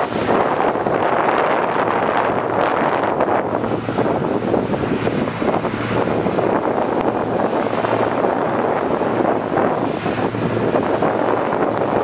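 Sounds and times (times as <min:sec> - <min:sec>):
combine harvester running: 0:00.0 - 0:12.0
wind buffeting microphone: 0:00.0 - 0:12.0.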